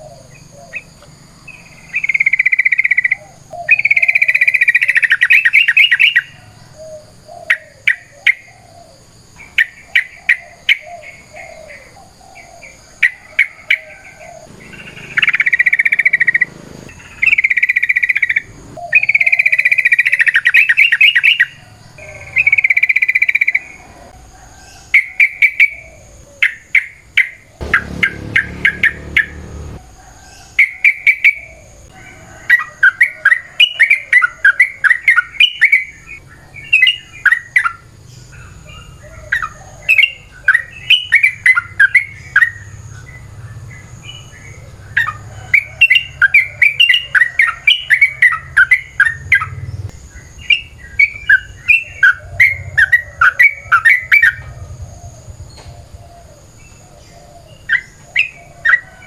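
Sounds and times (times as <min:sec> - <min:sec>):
bird chattering song: 0:00.0 - 0:29.8, 0:32.8 - 0:59.0.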